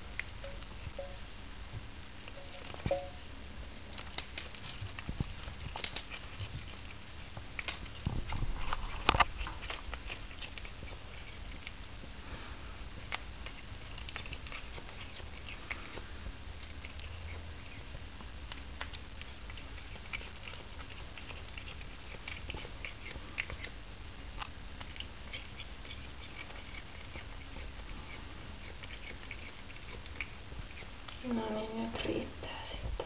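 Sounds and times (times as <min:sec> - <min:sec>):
cat crunching lettuce: 0:03.6 - 0:31.2.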